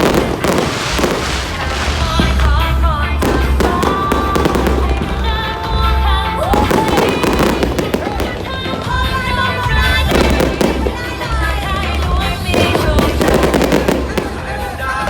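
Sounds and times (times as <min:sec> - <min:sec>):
fireworks popping and crackling: 0:00.0 - 0:15.0
loud music with pulsing bass: 0:00.0 - 0:15.0.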